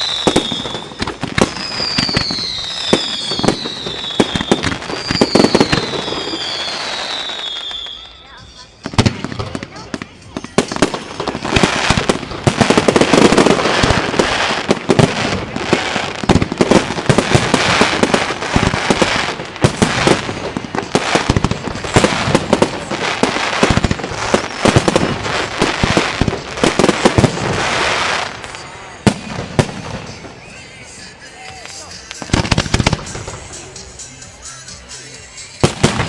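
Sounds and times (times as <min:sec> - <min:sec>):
fireworks bursting: 0:00.0 - 0:36.0
fireworks crackle: 0:00.0 - 0:36.0.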